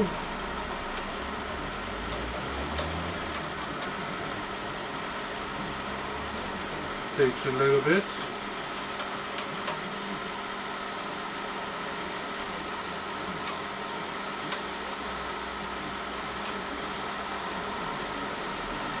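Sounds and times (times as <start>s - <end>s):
cooling fan hum: 0.0s - 19.0s
wire-feed motor running: 0.0s - 19.0s.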